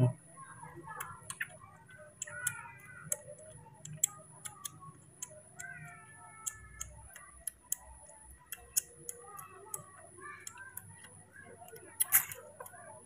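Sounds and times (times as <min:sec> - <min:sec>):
wet sucking clicks: 0:01.0 - 0:12.2.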